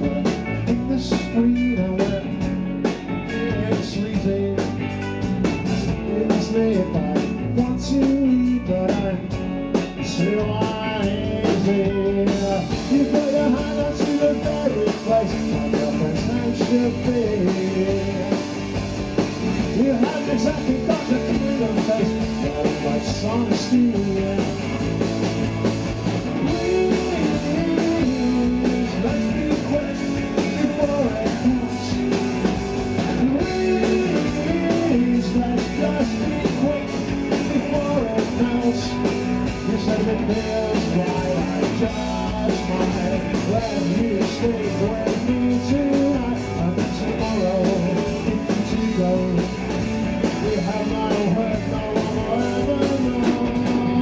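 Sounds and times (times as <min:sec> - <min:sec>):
man singing: 0:00.0 - 0:18.8, 0:19.5 - 0:25.0, 0:26.4 - 0:54.0
bass guitar: 0:00.0 - 0:54.0
drums: 0:00.0 - 0:54.0
electric guitar: 0:00.0 - 0:54.0.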